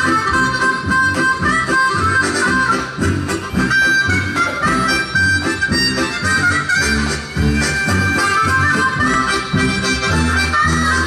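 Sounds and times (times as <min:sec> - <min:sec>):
harmonica through microphone: 0:00.0 - 0:11.0
steady rhythmic pulse: 0:00.0 - 0:11.0.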